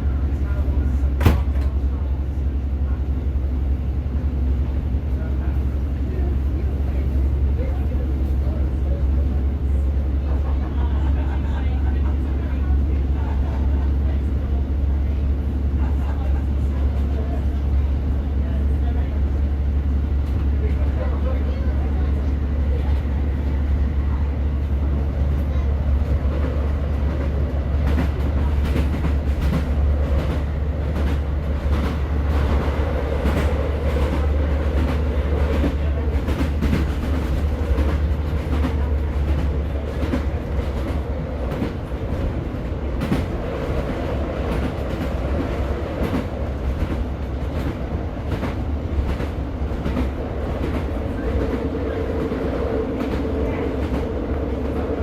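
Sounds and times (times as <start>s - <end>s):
train diesel engine drone: 0.0s - 55.0s.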